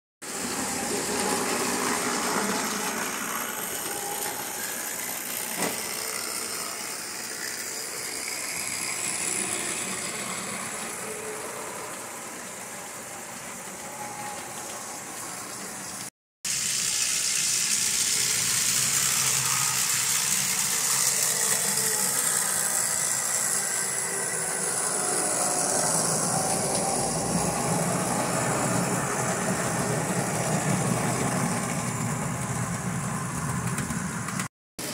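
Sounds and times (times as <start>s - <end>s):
model train motors whirring: 0.2s - 34.9s
wheels rattling over rails: 0.3s - 16.1s, 18.2s - 34.5s.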